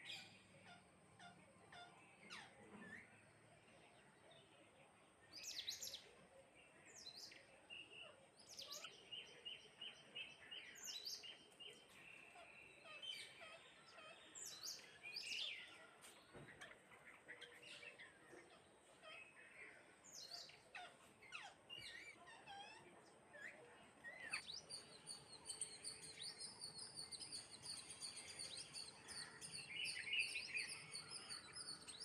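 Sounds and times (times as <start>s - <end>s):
sparrows chirping: 0.0s - 32.0s.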